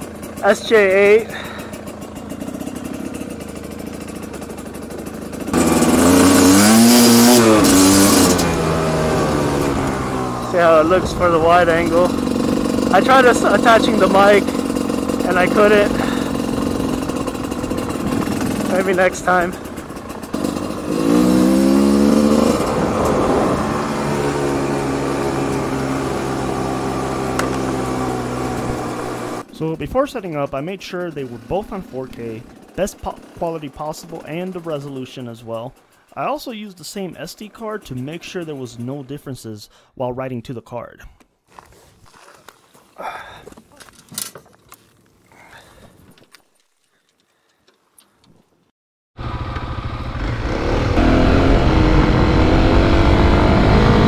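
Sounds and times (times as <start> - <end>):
dirt bike engine accelerating: 0.0 - 39.4, 49.2 - 54.0.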